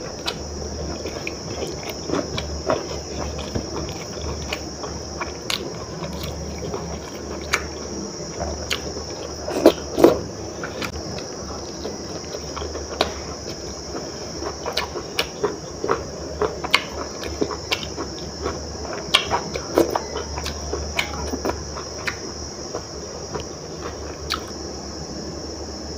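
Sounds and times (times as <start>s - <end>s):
chewing and lip smacks: 0.2s - 24.6s.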